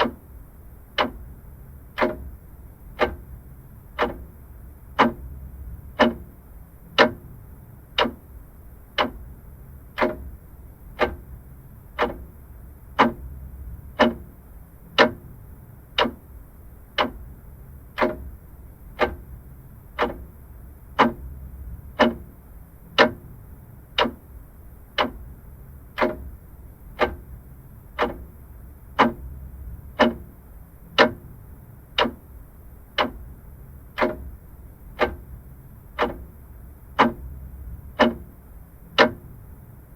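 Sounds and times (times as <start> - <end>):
mechanical clock ticking: 0.0 - 39.7
faint low hum: 0.0 - 39.9.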